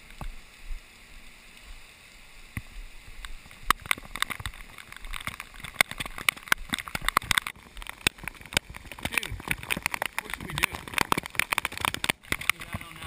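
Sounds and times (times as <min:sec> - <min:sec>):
floodwater rushing: 0:00.0 - 0:13.0
sharp taps and splashes: 0:02.5 - 0:13.0.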